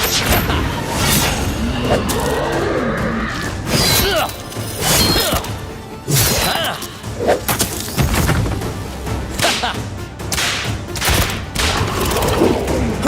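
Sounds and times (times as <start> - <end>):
action music: 0.0 - 13.0.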